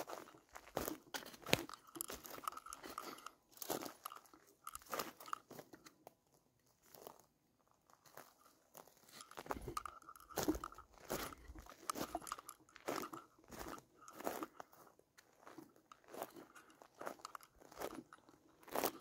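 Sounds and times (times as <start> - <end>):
footsteps crunching on gravel: 0.0 - 5.8, 8.0 - 19.0.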